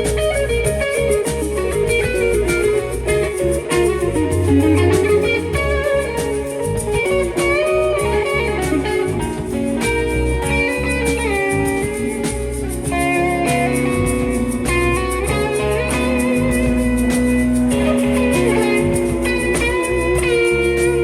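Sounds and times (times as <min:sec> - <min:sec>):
bass: 0:00.0 - 0:21.0
drums: 0:00.0 - 0:21.0
guitar lead with bent notes: 0:00.0 - 0:21.0.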